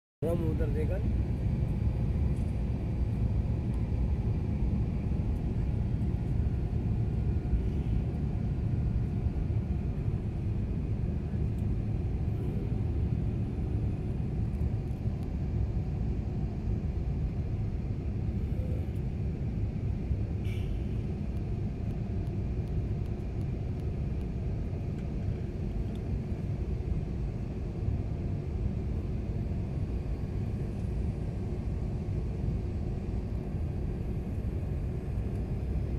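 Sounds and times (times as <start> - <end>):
jet engine rumble in cabin: 0.2 - 35.9.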